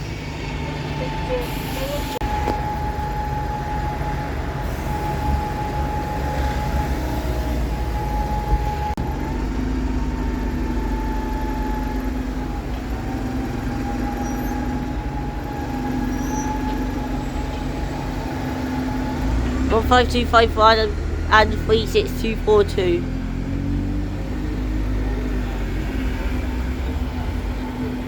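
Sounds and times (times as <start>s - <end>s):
bus engines rumbling: 0.0s - 28.0s.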